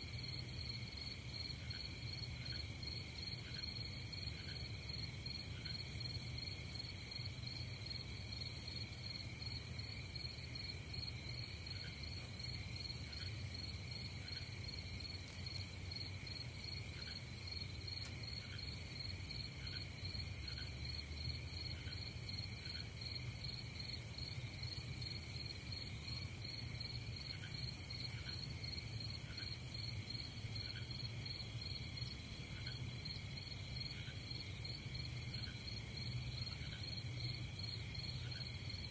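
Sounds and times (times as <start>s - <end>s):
crickets and insects trilling: 0.1s - 38.9s.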